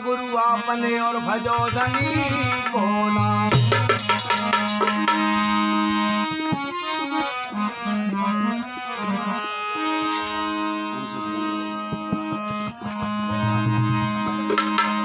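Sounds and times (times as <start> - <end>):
harmonium melody: 0.0 - 15.0.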